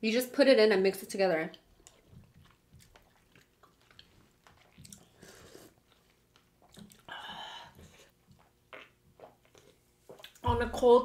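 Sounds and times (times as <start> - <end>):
quiet chewing: 1.5 - 10.5.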